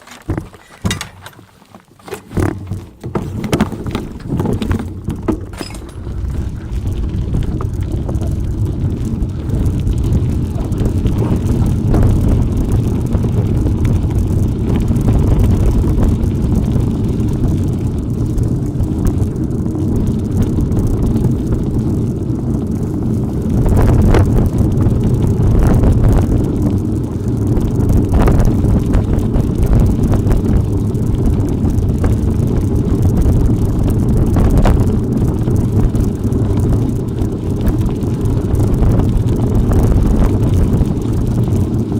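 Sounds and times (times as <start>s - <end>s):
bike knocks and rattles: 0.0s - 41.9s
wind buffeting microphone: 2.2s - 41.9s.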